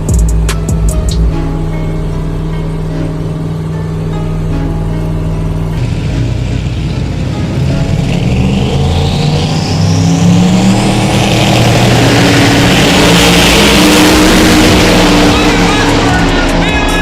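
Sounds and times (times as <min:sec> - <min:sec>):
racing engine accelerating: 0:00.0 - 0:17.0
whine rising in pitch: 0:00.0 - 0:17.0.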